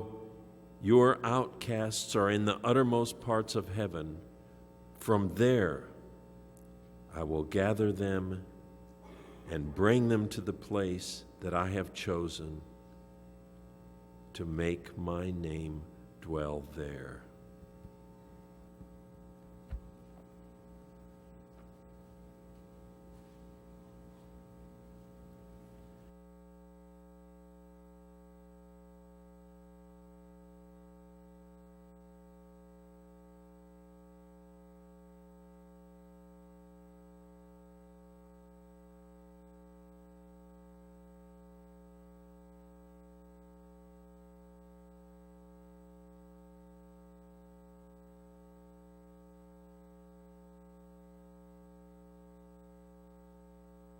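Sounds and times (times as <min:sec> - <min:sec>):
electrical mains hum: 0:00.0 - 0:53.9.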